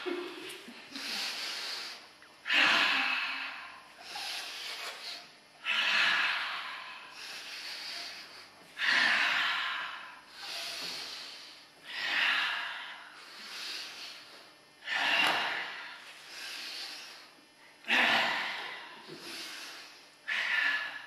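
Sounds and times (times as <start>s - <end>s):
deep loud breathing: 0.0s - 21.0s.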